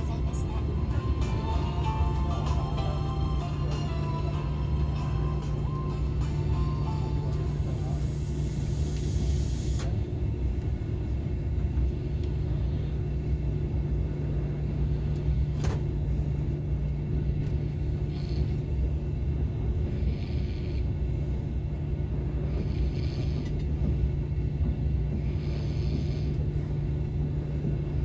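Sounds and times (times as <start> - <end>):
train cabin rumble and hum: 0.0 - 28.0.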